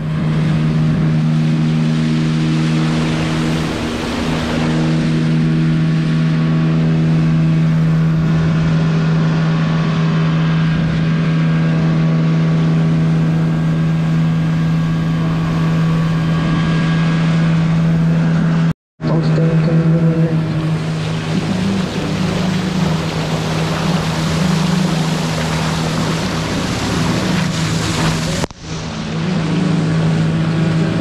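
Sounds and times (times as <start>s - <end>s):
outboard motor running: 0.0s - 31.0s
wind and water rushing: 0.0s - 31.0s.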